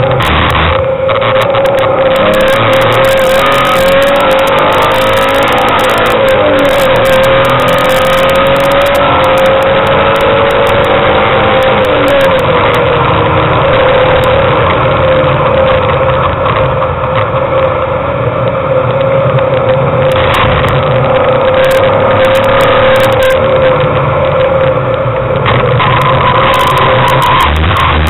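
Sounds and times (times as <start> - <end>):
car engine at high revs: 0.0 - 28.0
road rush: 0.0 - 28.0.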